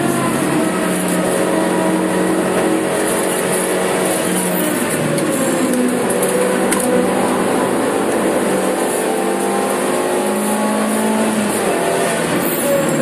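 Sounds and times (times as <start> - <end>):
car engine under load: 0.0 - 13.0
road and wind noise: 0.0 - 13.0.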